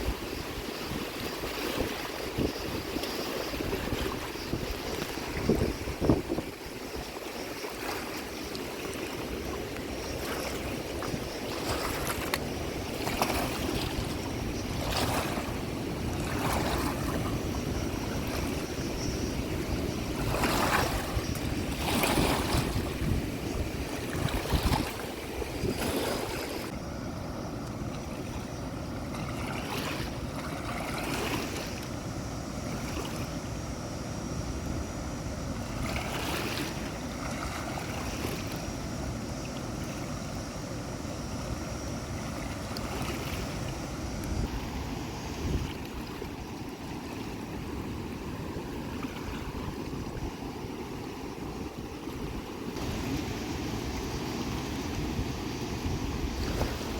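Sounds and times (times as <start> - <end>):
wind buffeting microphone: 0.0 - 7.2, 9.2 - 31.2, 40.2 - 56.9
water rushing: 0.0 - 56.9.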